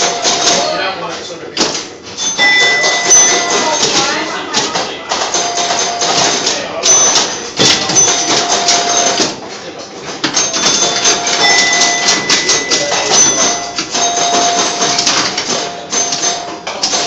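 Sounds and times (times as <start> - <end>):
pinball chime tones: 0.0 - 0.9, 2.2 - 9.3, 10.3 - 17.0
pinball machine clicking and clacking: 0.0 - 17.0.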